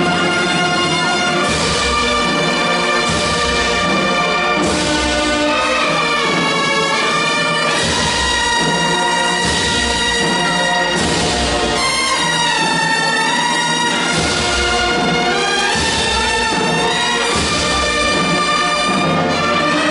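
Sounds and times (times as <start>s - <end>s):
brass band funeral march: 0.0s - 19.9s.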